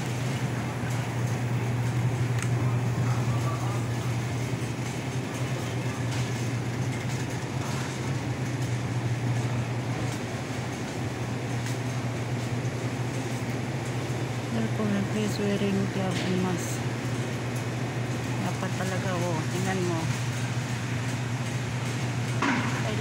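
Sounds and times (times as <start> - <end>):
refrigerated display cases humming: 0.0 - 23.0.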